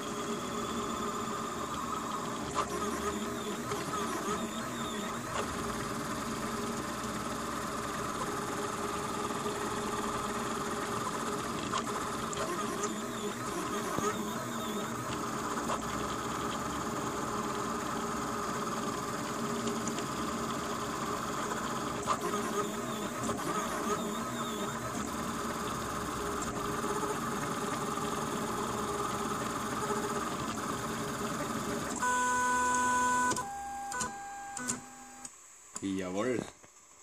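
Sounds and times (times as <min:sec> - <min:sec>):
stepper motor whines: 0:00.0 - 0:35.3
three d printer buzzing: 0:00.0 - 0:35.3.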